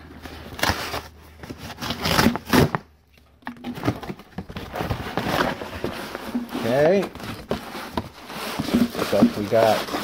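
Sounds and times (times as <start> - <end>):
cardboard box scraping and tearing: 0.3 - 2.8, 3.8 - 10.0.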